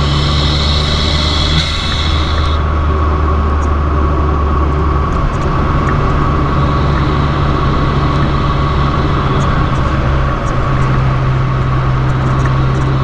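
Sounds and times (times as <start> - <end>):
car engine droning: 0.0 - 13.0
road noise: 0.0 - 13.0.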